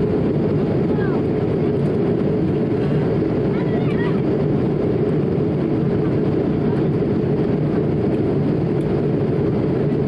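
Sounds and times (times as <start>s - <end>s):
airflow over fuselage: 0.0s - 10.0s
jet engines rumbling: 0.0s - 10.0s.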